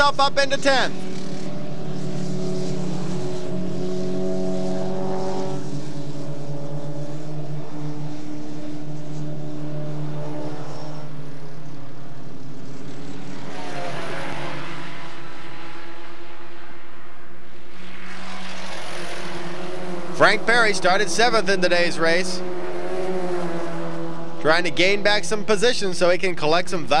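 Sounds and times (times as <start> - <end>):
race car engines droning: 0.0 - 27.0
race car passing by: 0.0 - 27.0.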